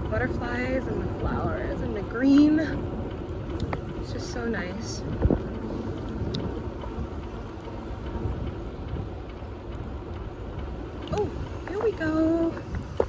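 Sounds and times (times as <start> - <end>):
bicycle rumble and rattle: 0.0 - 13.0.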